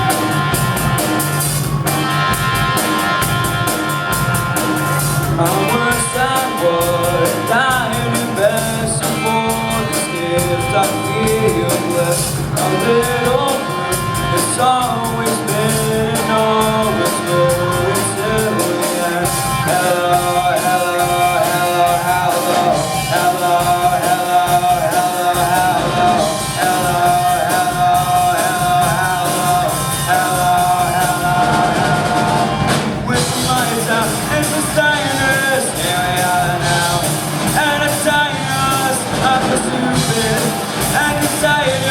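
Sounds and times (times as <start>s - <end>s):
bending melody line: 0.0s - 41.9s
drum kit cymbal beat: 0.0s - 41.9s
electric guitars and bass: 0.0s - 41.9s
live rock band playing: 0.0s - 41.9s.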